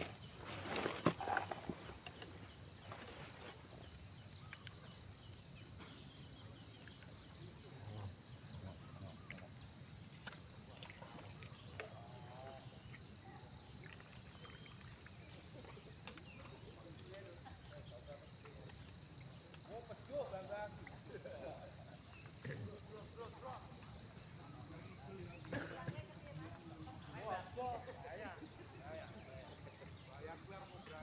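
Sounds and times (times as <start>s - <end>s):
insect trill: 0.0s - 31.0s.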